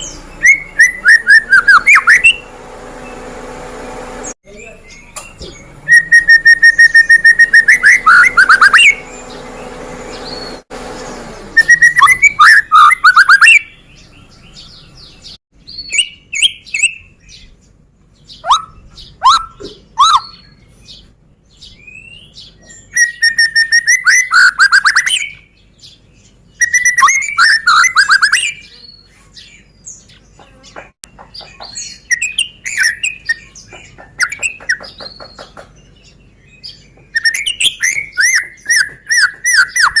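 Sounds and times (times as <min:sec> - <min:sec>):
bird singing trills and whistles: 0:00.0 - 0:03.2, 0:04.5 - 0:10.6, 0:11.5 - 0:40.0.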